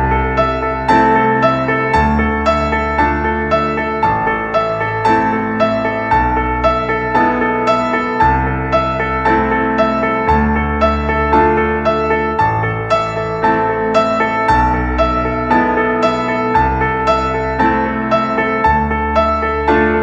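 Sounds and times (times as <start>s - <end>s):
piano tune: 0.0s - 20.0s
sustained bass chords: 0.0s - 20.0s.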